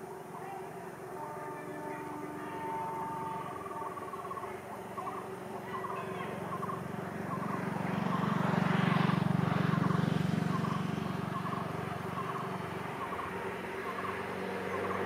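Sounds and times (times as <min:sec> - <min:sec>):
small birds chirping: 0:01.6 - 0:15.0.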